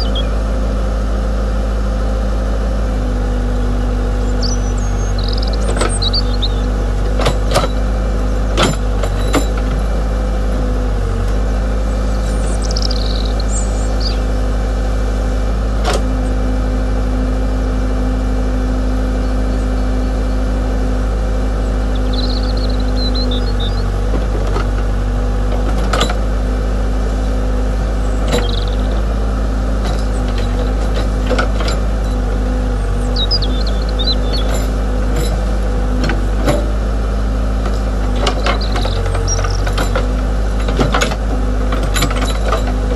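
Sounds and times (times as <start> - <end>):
hydraulic pump motor humming: 0.0 - 42.9.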